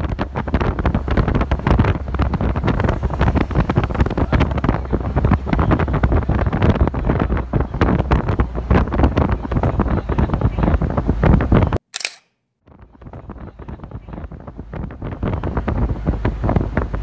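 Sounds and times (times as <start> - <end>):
wind buffeting microphone: 0.0 - 11.8, 12.6 - 17.0.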